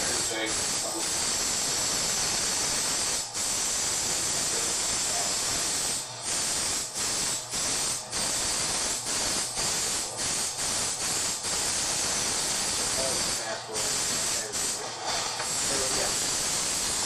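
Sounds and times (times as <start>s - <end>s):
loud steady hiss: 0.0s - 17.0s.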